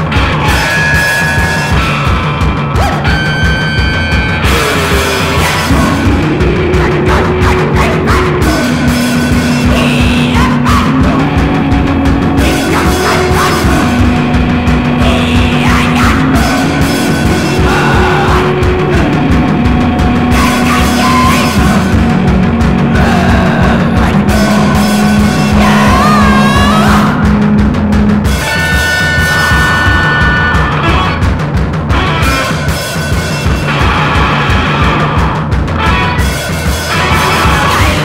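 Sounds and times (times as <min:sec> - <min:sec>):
busy drums: 0:00.0 - 0:38.0
sliding guitar notes: 0:00.0 - 0:38.0.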